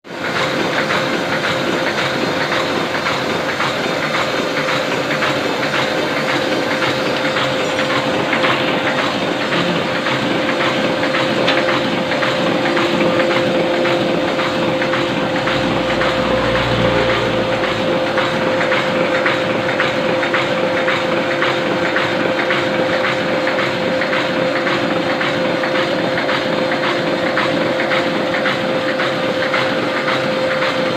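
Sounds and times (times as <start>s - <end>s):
printing press clicking: 0.1s - 30.9s
printing press humming: 0.1s - 30.9s
rhythmic mechanical clacking: 0.1s - 30.9s.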